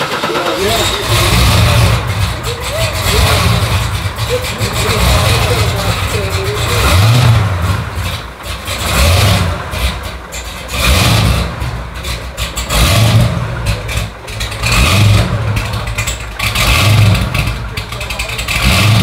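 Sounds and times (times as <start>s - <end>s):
car engine idling: 0.0s - 19.0s
car engine revving in blips: 0.0s - 19.0s.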